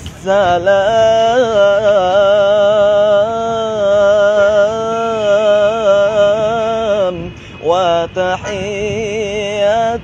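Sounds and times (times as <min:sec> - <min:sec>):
man chanting unaccompanied: 0:00.0 - 0:10.0.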